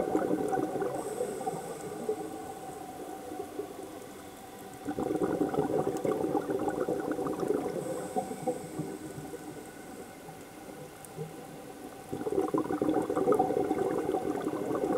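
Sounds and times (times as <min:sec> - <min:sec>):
water: 0:00.0 - 0:14.9.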